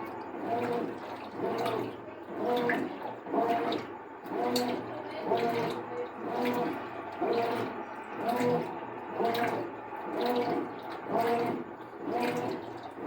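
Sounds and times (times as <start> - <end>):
faint motor whine: 0.0 - 13.0
washing machine water sloshing: 0.0 - 13.0.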